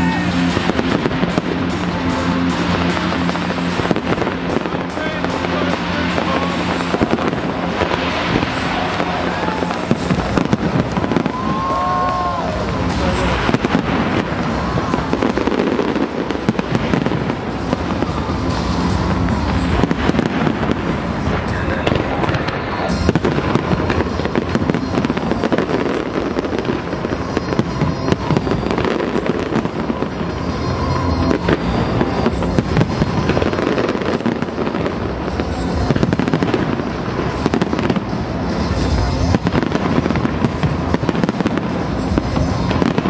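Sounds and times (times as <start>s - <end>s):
fireworks bursts and crackling: 0.0s - 43.0s
music playing: 0.0s - 43.0s.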